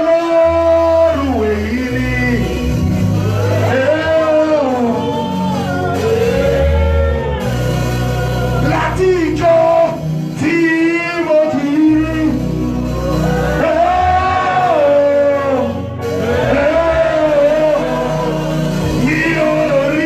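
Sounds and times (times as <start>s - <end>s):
band with bass and guitar: 0.0s - 20.0s.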